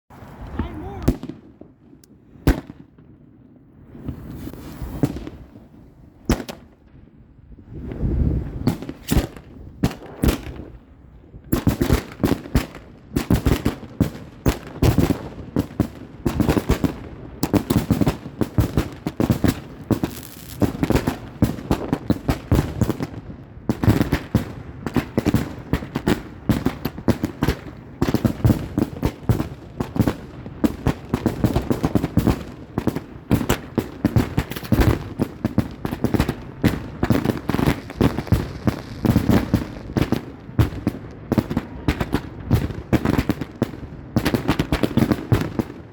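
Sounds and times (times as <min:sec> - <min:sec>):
fireworks bangs: 0:00.1 - 0:03.1, 0:03.8 - 0:10.9, 0:11.5 - 0:45.8.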